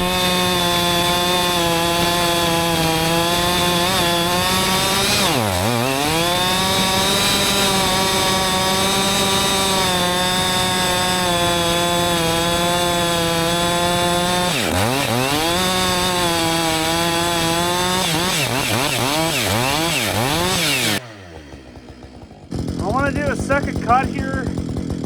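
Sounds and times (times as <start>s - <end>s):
chainsaw cutting log: 0.0s - 25.0s.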